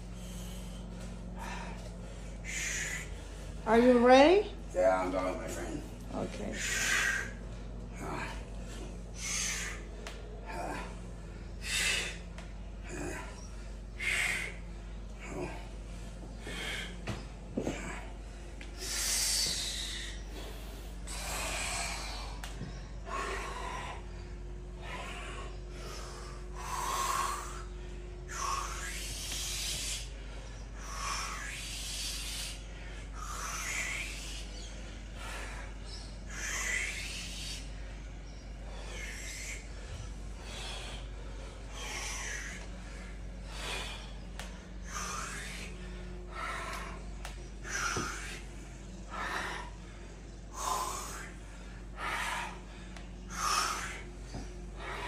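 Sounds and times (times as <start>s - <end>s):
man's forceful breaths: 0.0s - 55.0s.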